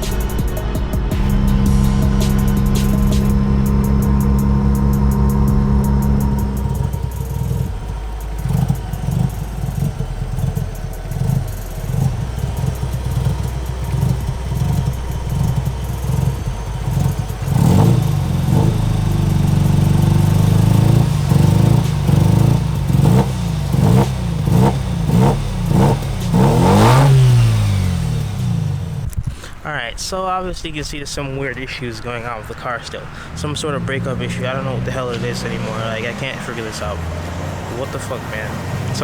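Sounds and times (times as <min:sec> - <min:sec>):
rotary engine under throttle: 0:00.0 - 0:29.6, 0:31.4 - 0:39.0.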